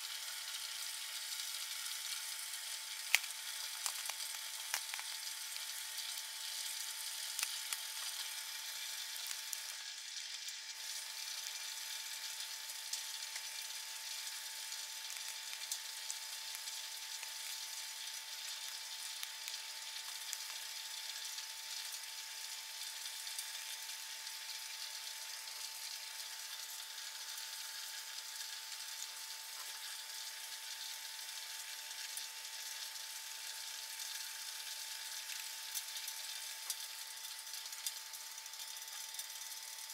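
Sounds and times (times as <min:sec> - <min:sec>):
small crackles: 0:00.0 - 0:39.9
stove sizzling hiss: 0:00.0 - 0:39.9.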